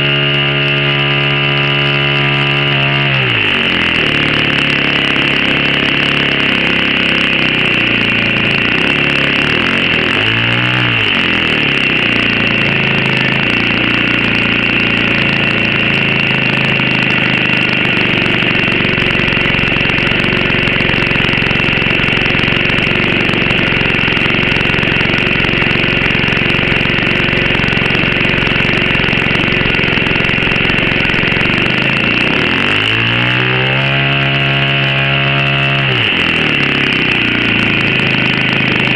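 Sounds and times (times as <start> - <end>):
model plane engine running: 0.0 - 38.9.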